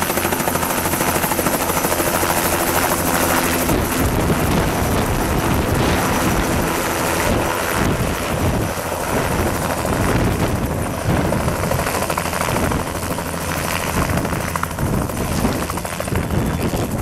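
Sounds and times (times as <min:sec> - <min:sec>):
helicopter engine running: 0:00.0 - 0:17.0.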